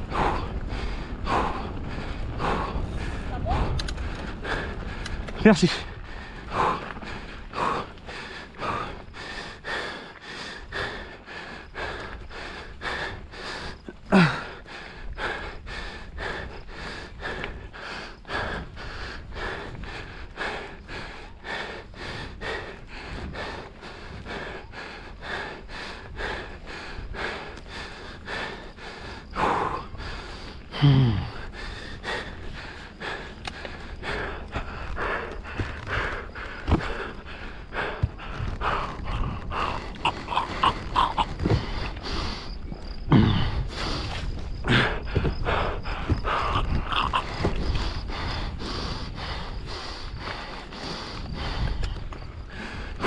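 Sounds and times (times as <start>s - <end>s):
person panting hard: 0.0s - 53.0s.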